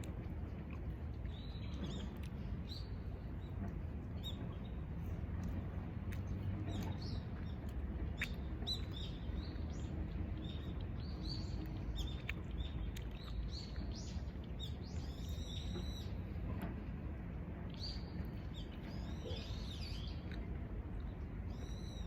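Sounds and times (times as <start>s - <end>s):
small birds chirping: 0.0s - 16.4s, 17.6s - 22.0s
low background rumble: 0.0s - 22.0s.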